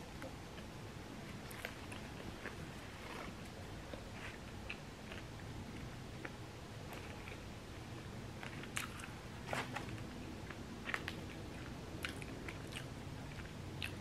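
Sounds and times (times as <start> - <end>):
person chewing food: 1.4 - 14.0.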